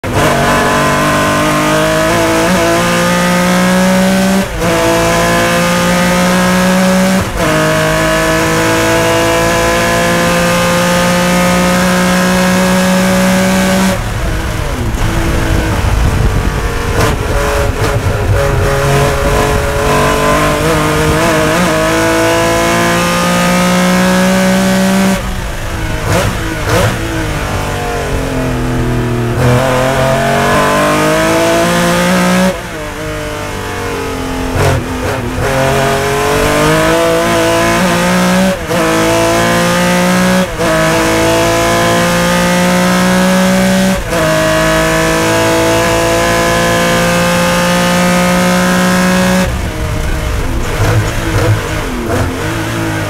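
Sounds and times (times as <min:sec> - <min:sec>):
racing car engine revving: 0:00.0 - 0:53.0.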